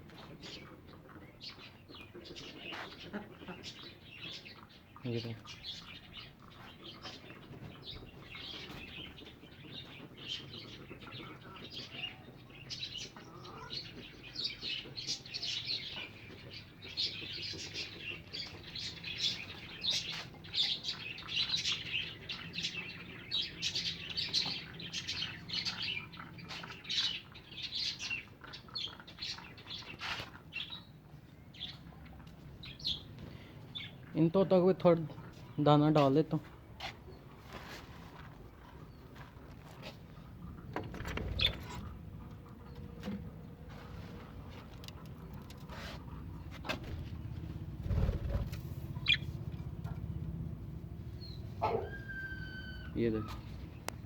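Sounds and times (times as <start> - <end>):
small birds chirping and chattering: 0.0 - 54.0.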